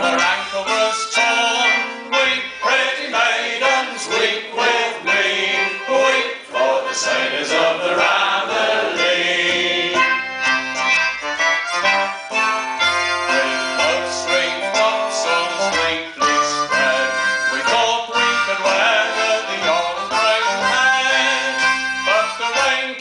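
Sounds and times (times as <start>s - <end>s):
acoustic folk band playing: 0.0s - 23.0s.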